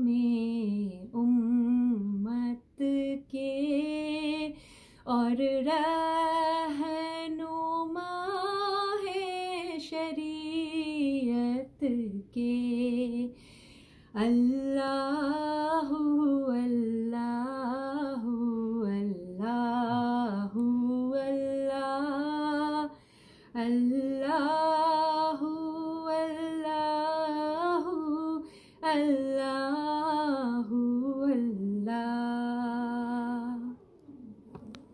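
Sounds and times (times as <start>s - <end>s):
woman singing unaccompanied: 0.0s - 13.4s, 14.1s - 33.8s.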